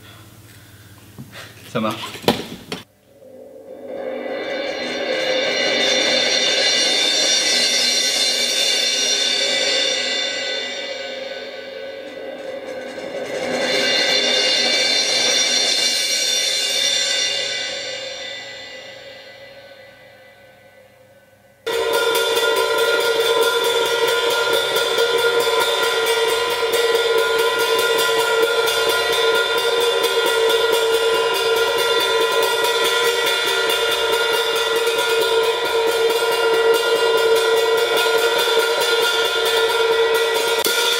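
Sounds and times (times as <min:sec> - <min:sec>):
rapid cymbal wash: 0:02.9 - 0:40.9
cymbal swelling and ringing: 0:03.0 - 0:40.9.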